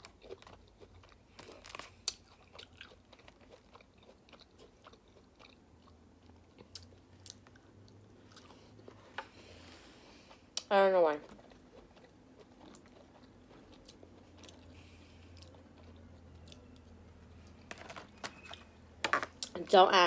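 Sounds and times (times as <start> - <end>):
person chewing food: 0.0 - 18.7.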